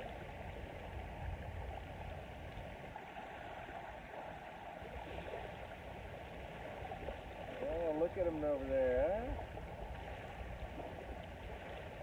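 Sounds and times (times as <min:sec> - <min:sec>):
small waves breaking on shore: 0:00.0 - 0:12.0.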